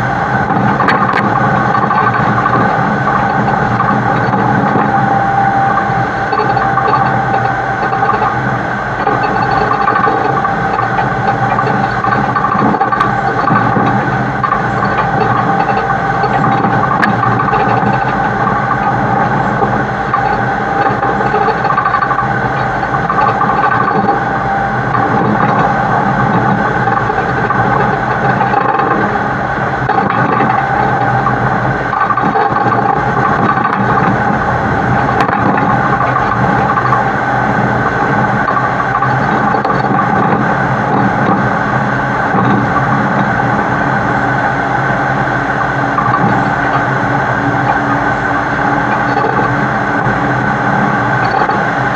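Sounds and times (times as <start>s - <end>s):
heavy truck driving: 0.0s - 51.9s.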